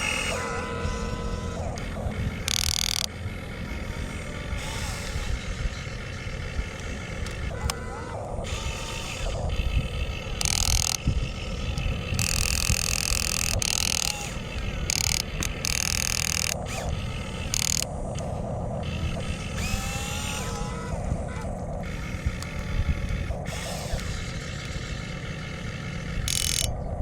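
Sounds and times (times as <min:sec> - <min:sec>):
small electric motors whirring: 0:00.0 - 0:27.0
steady low rumble: 0:00.0 - 0:27.0.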